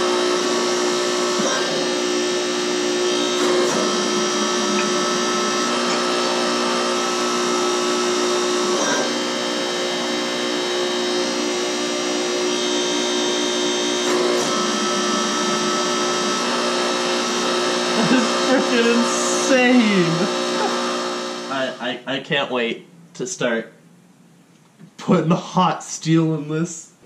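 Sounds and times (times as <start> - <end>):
hydraulic pump whine: 0.0 - 22.0.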